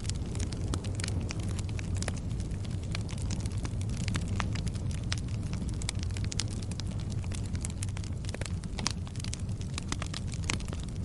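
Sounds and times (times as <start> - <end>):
fire crackling and popping: 0.0 - 11.0
low rumble of burning: 0.0 - 11.0.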